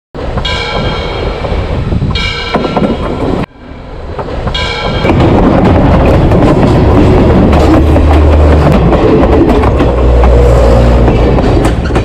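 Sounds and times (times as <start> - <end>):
train rumbling and clattering past: 0.2 - 12.0.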